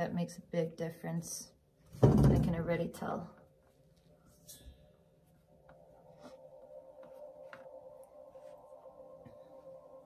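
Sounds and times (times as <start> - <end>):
quiet ambient music: 0.0 - 10.0.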